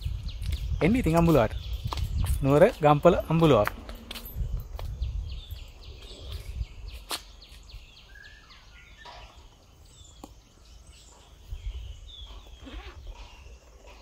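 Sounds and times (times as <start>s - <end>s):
wild birds calling: 0.0s - 14.0s.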